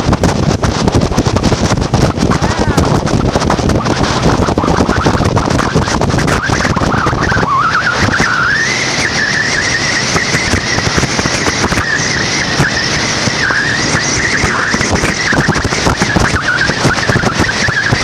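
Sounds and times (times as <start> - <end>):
hull rushing through water: 0.0 - 18.0
motorboat engine whine: 0.0 - 18.0
wind buffeting microphone: 0.0 - 18.0.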